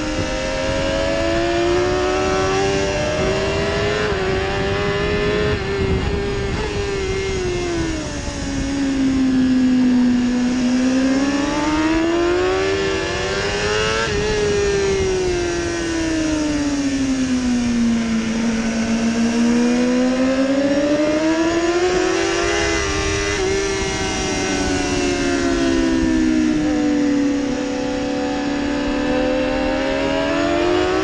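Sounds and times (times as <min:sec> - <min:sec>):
motorcycle engine at speed: 0:00.0 - 0:31.0
wind rushing over microphone: 0:00.0 - 0:31.0.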